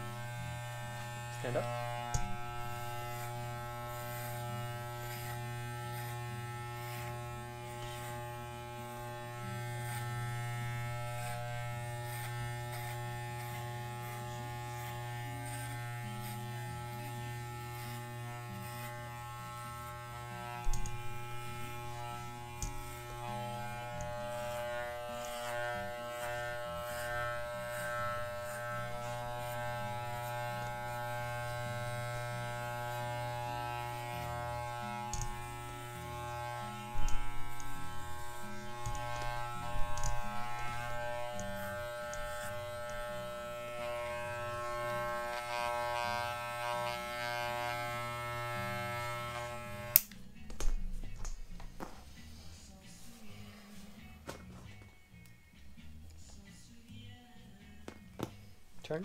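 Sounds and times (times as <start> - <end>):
electric clippers buzzing: 0.0 - 50.3.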